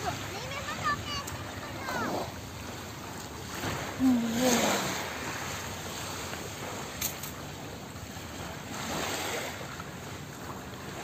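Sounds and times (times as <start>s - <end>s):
small waves washing onto sand: 0.0s - 11.0s.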